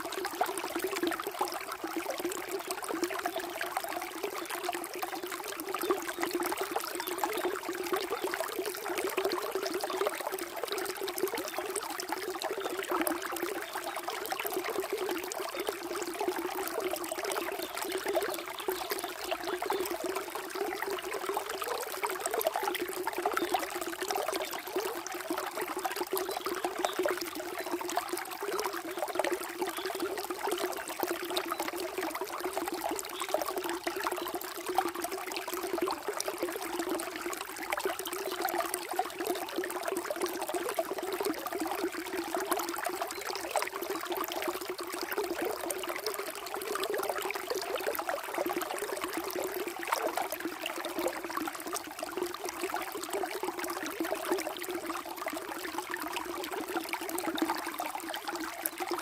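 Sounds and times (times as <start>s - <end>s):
water running steadily: 0.0s - 59.0s.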